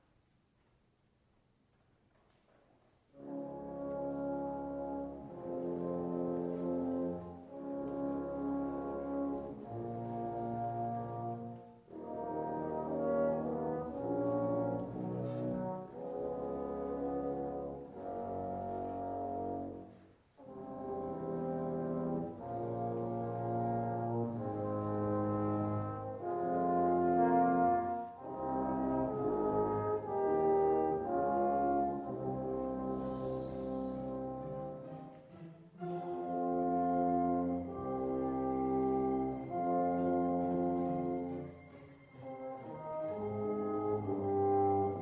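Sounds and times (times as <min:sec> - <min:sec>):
classical music slow chords: 0:00.0 - 0:45.0.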